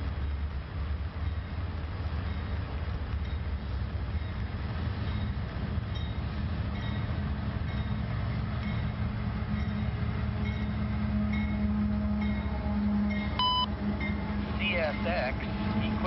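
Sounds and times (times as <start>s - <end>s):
heavy rain hiss: 0.0s - 13.1s, 13.7s - 16.0s
locomotive engine drone: 0.0s - 16.0s.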